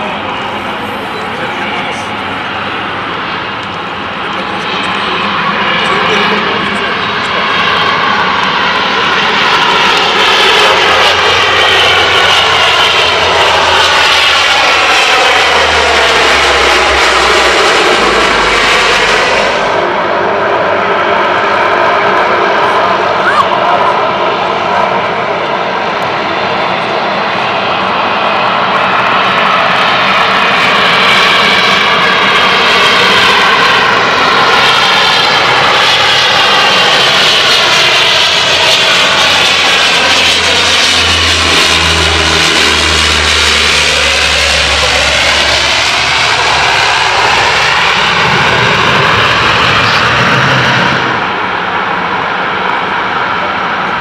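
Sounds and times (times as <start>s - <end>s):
turboprop aircraft drone: 0.0s - 54.0s.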